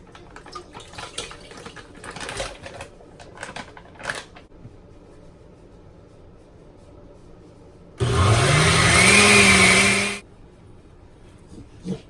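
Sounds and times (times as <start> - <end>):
low background hum: 0.0 - 9.2, 10.1 - 12.0.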